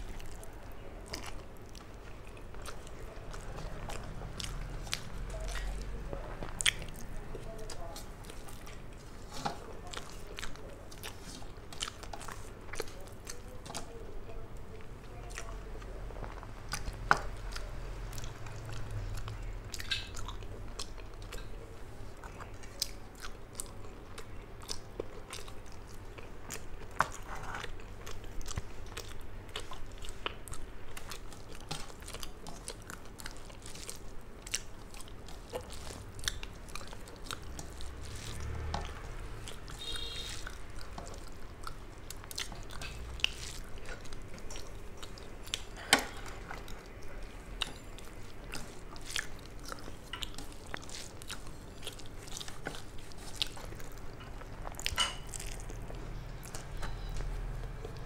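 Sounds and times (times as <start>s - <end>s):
chewing and wet mouth sounds: 0.0s - 58.0s.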